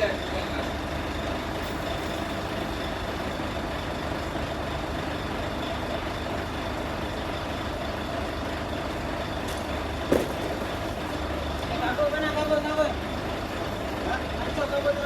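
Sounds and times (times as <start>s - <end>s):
engine running at low speed: 0.0s - 15.0s.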